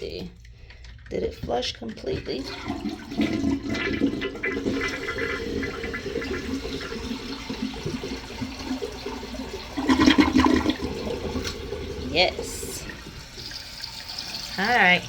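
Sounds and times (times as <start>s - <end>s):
toilet flushing: 1.0s - 15.0s.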